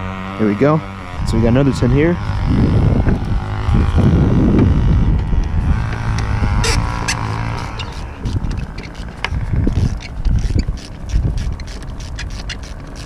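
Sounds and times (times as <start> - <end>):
hand tool whirring: 0.0 - 13.0.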